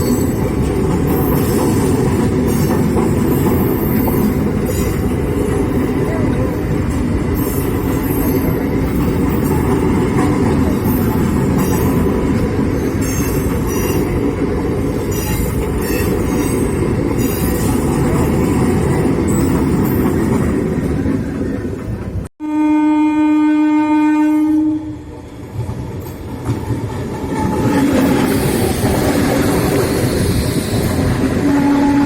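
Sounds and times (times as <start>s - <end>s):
train rumbling past: 0.0s - 22.3s, 24.0s - 32.0s.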